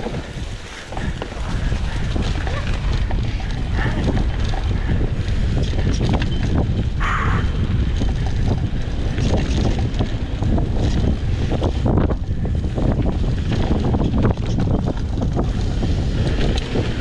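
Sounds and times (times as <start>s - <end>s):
bike clattering over rough trail: 0.0s - 17.0s
wind buffeting microphone: 0.0s - 17.0s.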